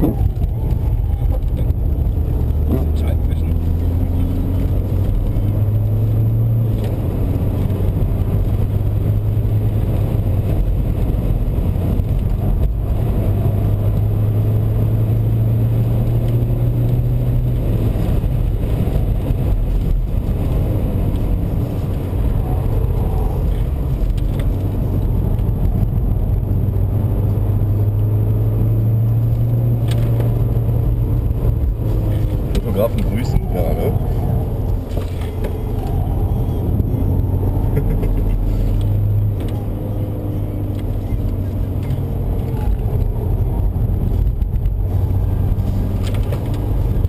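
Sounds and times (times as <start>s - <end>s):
diesel engine droning: 0.0s - 47.0s
tyre and road noise: 0.0s - 47.0s.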